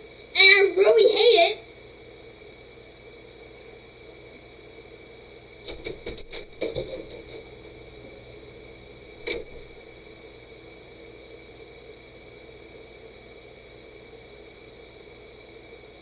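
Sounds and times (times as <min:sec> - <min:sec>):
high electrical whine: 0:00.0 - 0:16.0.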